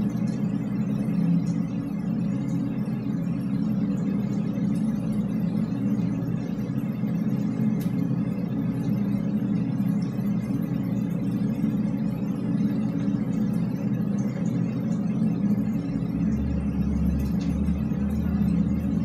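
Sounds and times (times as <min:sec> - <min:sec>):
low rumble inside drainpipe: 0:00.0 - 0:19.0.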